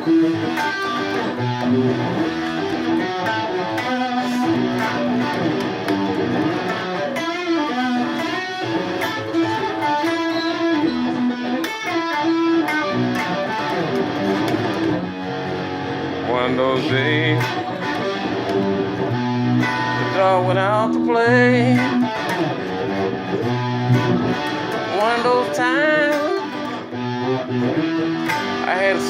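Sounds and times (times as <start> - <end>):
instrumental guitar music: 0.0 - 29.0.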